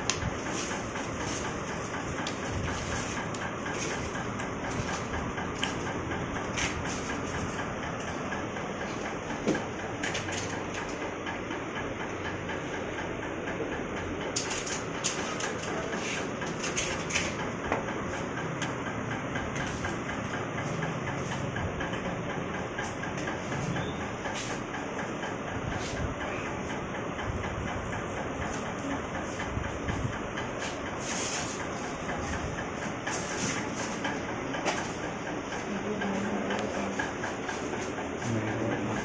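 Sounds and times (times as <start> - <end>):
machine hum: 0.0 - 39.0
mechanical running noise: 0.0 - 39.0.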